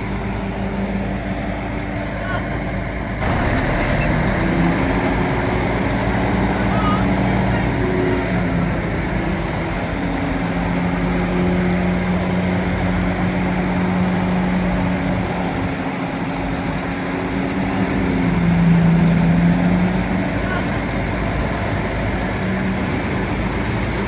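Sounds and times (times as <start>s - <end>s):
heavy machine engine droning: 0.0s - 24.0s.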